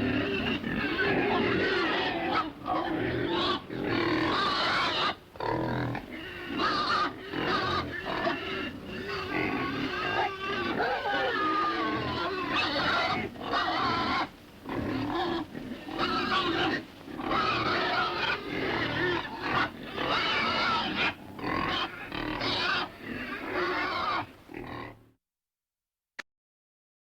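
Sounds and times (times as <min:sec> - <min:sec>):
pig grunting: 0:00.0 - 0:25.0.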